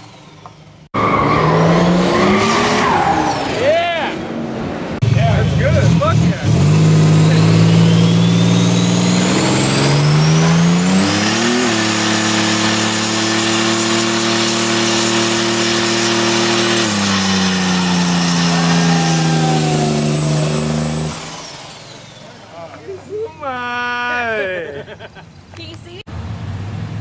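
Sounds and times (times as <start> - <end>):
spinning tyre squealing: 0.0 - 4.2, 5.7 - 24.3
car engine revving: 0.0 - 22.7.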